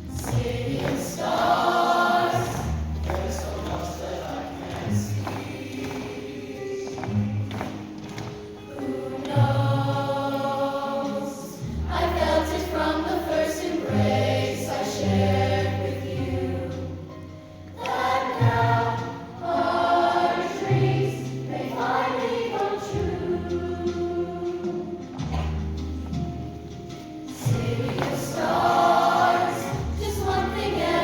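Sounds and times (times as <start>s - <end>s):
choir singing: 0.0s - 7.8s, 8.6s - 25.6s, 27.2s - 31.0s.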